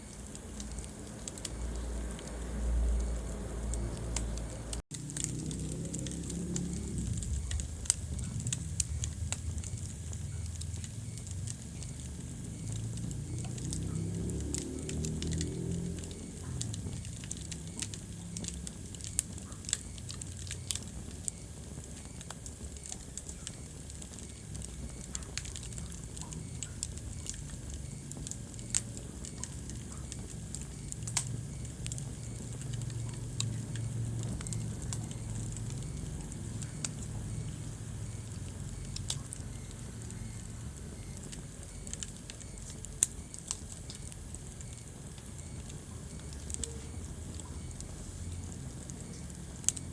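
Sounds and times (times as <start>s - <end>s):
low rumble of flame: 0.0s - 49.9s
wood fire crackling and popping: 0.0s - 49.9s.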